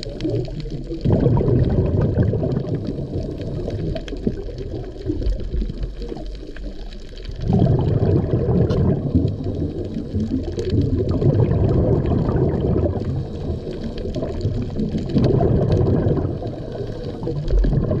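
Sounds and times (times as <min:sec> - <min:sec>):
faint underwater clicks: 0:00.0 - 0:18.0
underwater churning rumble: 0:00.0 - 0:18.0.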